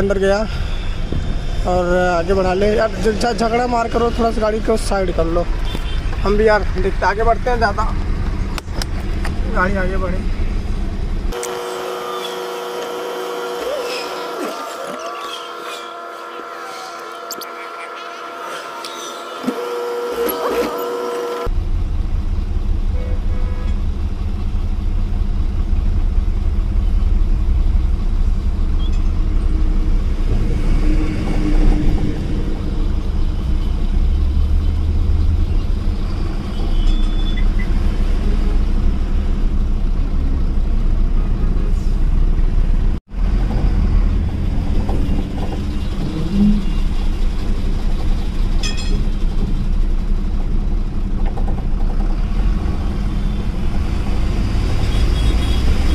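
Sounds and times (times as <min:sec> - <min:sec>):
diesel truck engine rumbling: 0:00.0 - 0:11.4, 0:19.1 - 0:55.9.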